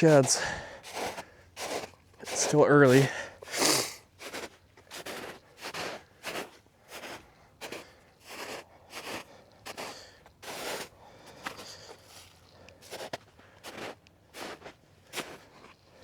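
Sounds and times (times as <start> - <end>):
footsteps through dry grass: 0.0 - 16.0.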